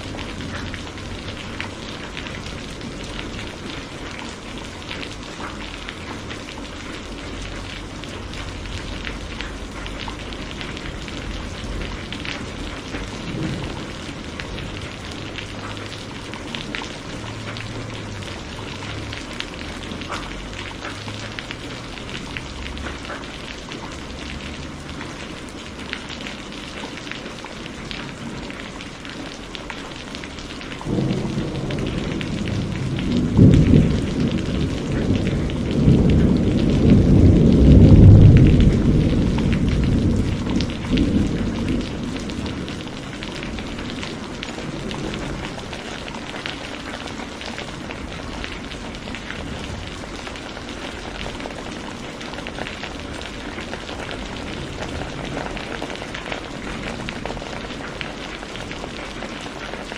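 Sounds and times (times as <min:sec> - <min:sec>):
distant thunder rumble: 0:00.0 - 0:06.2, 0:06.8 - 0:23.1, 0:30.6 - 0:59.0
rain falling: 0:00.0 - 0:59.9.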